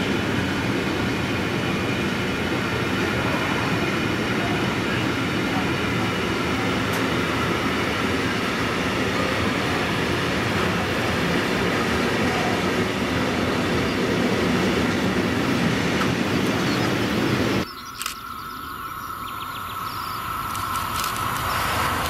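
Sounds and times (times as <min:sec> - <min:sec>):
open-air ambience: 0:00.0 - 0:22.0
train wheels rumbling on rails: 0:00.0 - 0:22.0.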